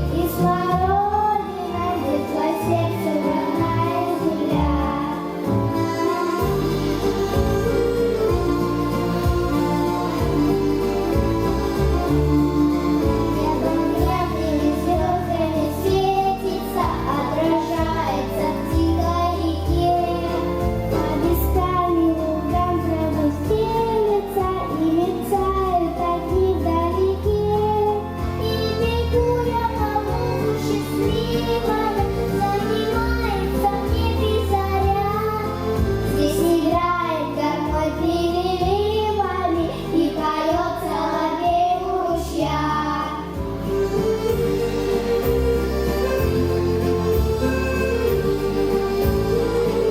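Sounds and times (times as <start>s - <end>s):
musical accompaniment with bass: 0.0s - 49.9s.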